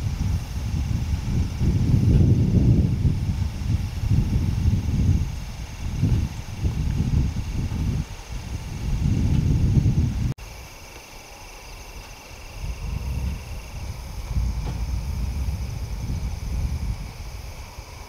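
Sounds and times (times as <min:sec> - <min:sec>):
wind buffeting microphone: 0:00.0 - 0:10.4, 0:11.7 - 0:18.0
insects trilling: 0:00.0 - 0:18.0.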